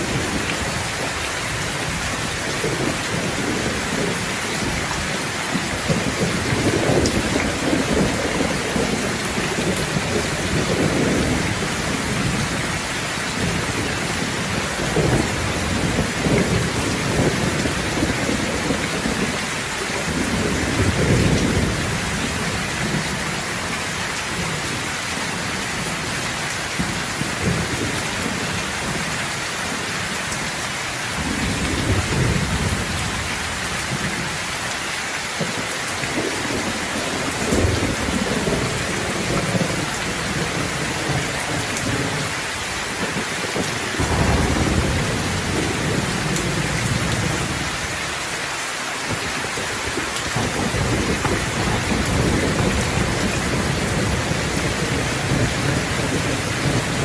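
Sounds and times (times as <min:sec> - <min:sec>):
thunder rumbling: 0:00.0 - 0:30.4, 0:31.2 - 0:34.3, 0:35.5 - 0:48.2, 0:49.1 - 0:57.0
steady rain: 0:00.0 - 0:57.0.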